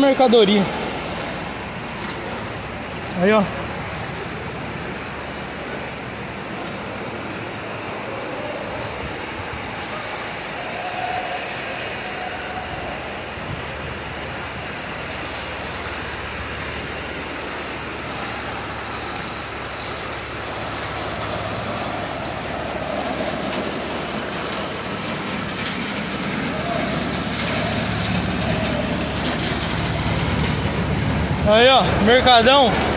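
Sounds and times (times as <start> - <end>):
steady water noise: 0.0 - 32.9.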